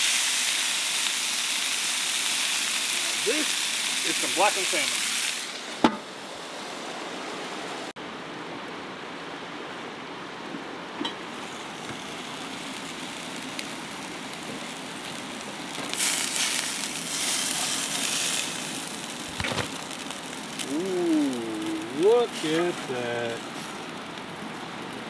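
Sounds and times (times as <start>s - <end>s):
fish sizzling in grill pan: 0.0s - 6.8s, 11.3s - 25.0s.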